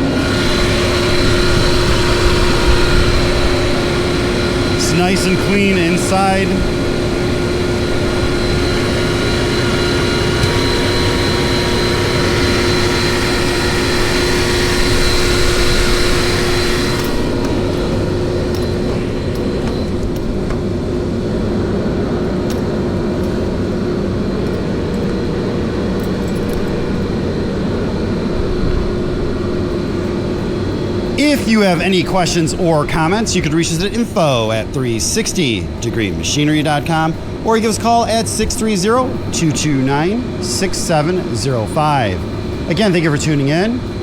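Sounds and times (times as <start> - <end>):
loud high hiss: 0.0 - 26.0, 29.0 - 44.0
air compressor humming and whining: 0.0 - 44.0.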